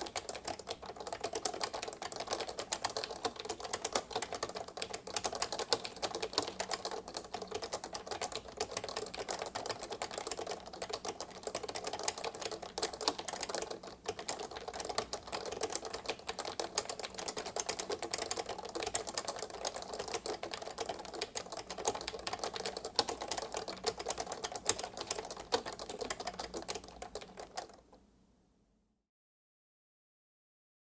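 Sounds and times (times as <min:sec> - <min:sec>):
fast typing on keyboard: 0:00.0 - 0:28.0.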